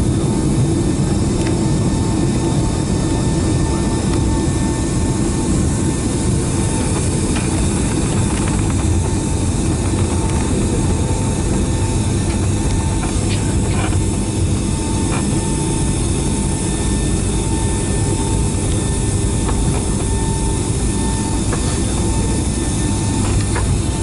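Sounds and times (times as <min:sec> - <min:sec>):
jet engines low rumble: 0:00.0 - 0:24.0
thin steady whine: 0:00.0 - 0:24.0.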